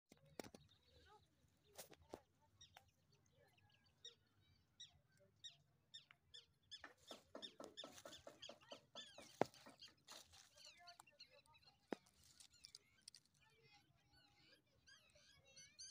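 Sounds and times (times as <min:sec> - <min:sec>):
small birds chirping: 0:00.1 - 0:15.9.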